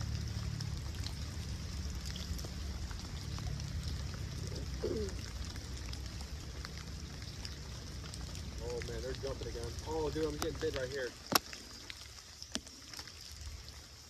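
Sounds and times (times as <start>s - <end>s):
light rain pattering: 0.0s - 14.0s.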